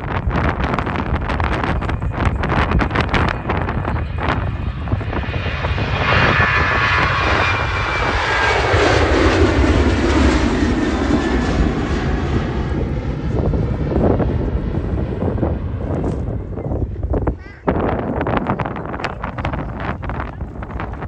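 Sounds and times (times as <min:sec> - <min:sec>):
airliner engines passing by: 0:00.0 - 0:21.0
wind rumble on microphone: 0:00.0 - 0:21.0.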